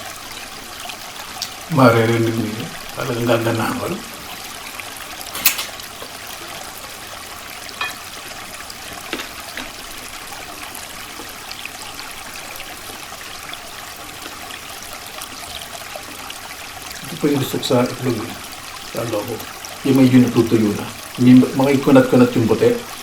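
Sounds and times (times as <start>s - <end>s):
water trickling over stones: 0.0s - 23.0s.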